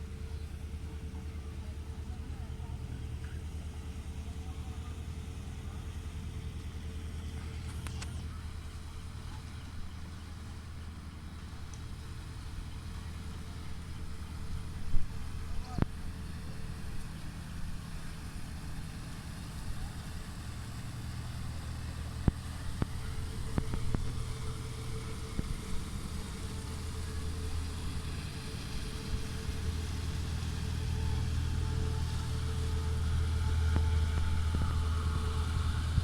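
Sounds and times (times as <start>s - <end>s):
boat engine humming: 0.0s - 36.0s.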